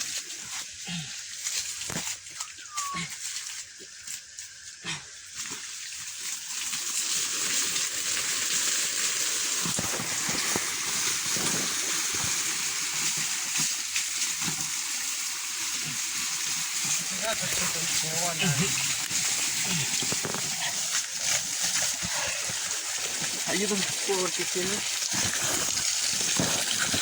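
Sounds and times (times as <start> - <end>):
water hissing from leaking pipe: 0.0 - 27.0.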